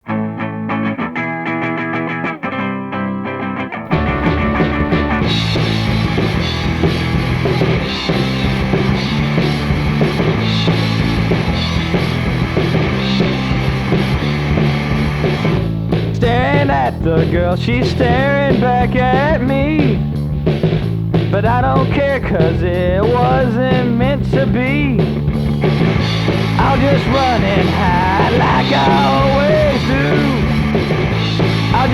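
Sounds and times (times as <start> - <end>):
electric guitar: 0.0 - 31.9
rock band playing: 0.0 - 31.9.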